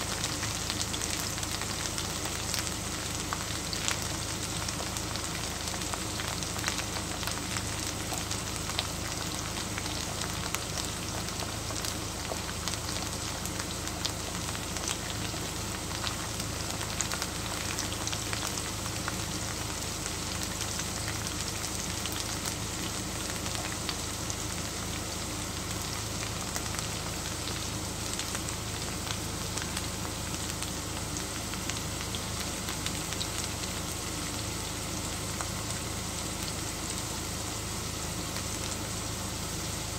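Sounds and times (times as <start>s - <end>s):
potatoes sizzling in oil: 0.0s - 39.9s.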